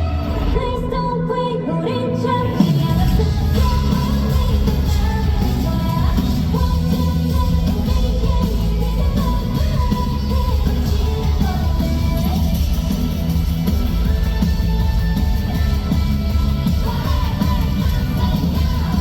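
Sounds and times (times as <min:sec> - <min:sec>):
female lead vocal: 0:00.0 - 0:19.0
live pop-rock band playing: 0:00.0 - 0:19.0.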